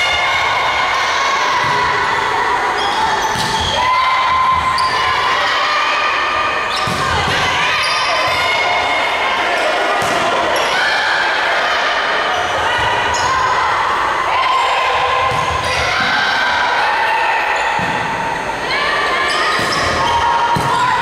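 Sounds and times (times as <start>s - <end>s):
players' voices: 0.0s - 21.0s.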